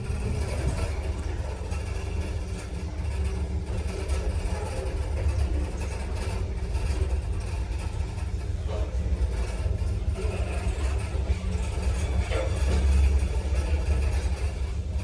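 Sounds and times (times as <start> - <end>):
elevator running in shaft: 0.0 - 15.0.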